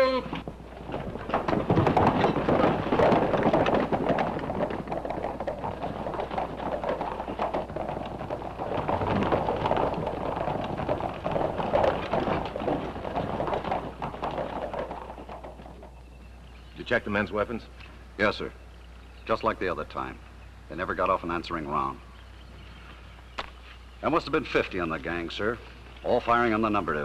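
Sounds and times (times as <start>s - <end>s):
horse hooves clattering: 0.0s - 27.0s.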